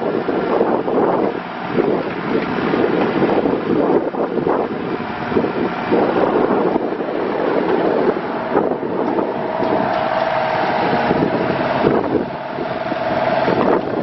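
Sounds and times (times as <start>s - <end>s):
mini excavator running: 0.0s - 14.0s
wind buffeting microphone: 0.0s - 14.0s.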